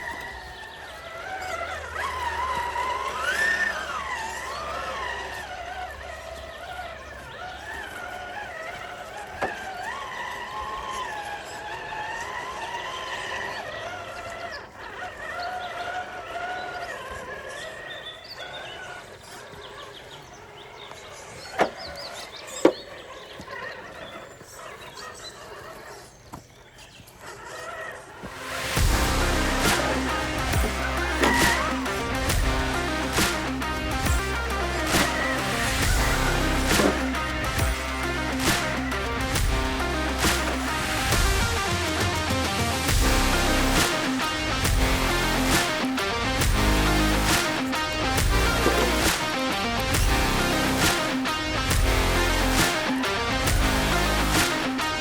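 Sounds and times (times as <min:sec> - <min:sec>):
electric motor and gear whine: 0:00.0 - 0:19.6, 0:28.2 - 0:55.0.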